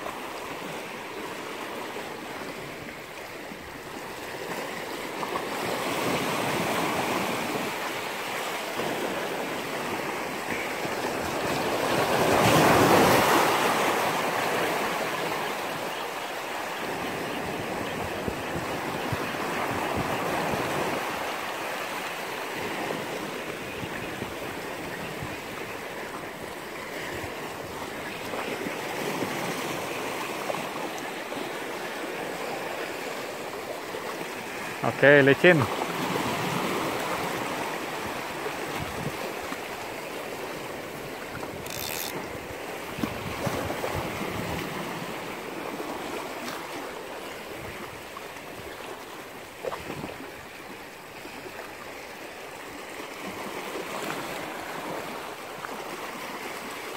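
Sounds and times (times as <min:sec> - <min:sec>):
small waves washing on shore: 0:00.0 - 0:56.9.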